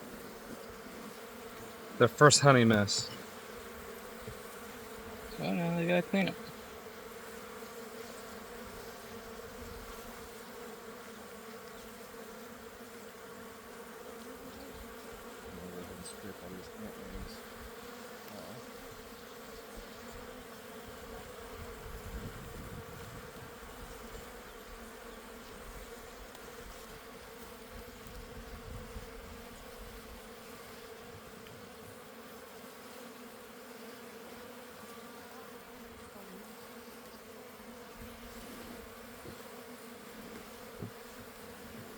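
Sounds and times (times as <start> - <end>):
honeybees buzzing: 0.0 - 41.9.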